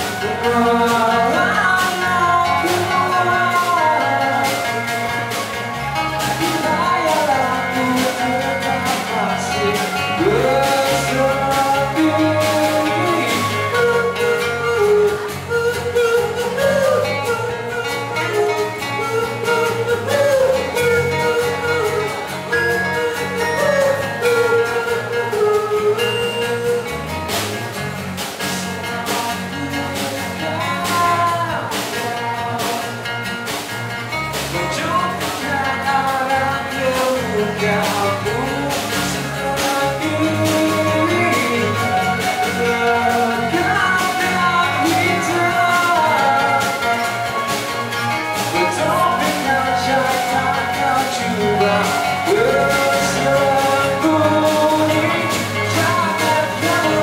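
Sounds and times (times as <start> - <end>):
man singing into microphone: 0.0 - 26.9, 28.4 - 33.2, 34.5 - 57.0
acoustic guitars strummed: 0.0 - 57.0.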